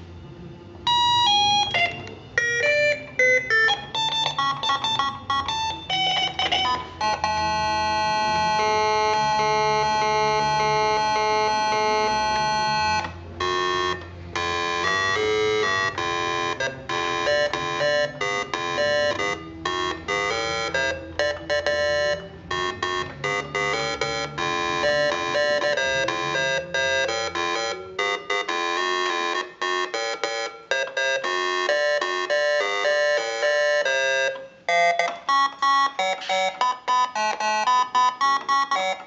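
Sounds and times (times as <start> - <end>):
low keyboard notes: 0.0 - 39.0
electronic keyboard notes and chords: 0.7 - 39.0.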